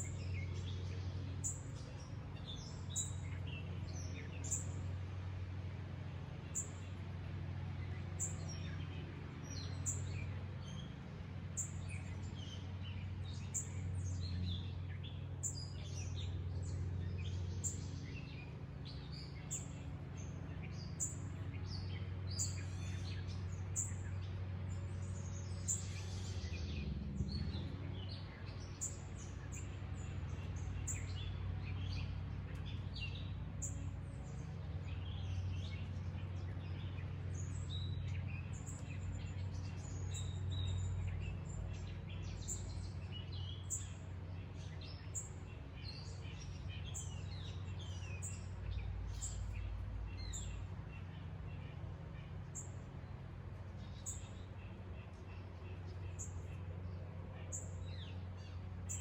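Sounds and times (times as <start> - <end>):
low background hum: 0.0 - 59.0
wild birds chirping: 0.0 - 59.0.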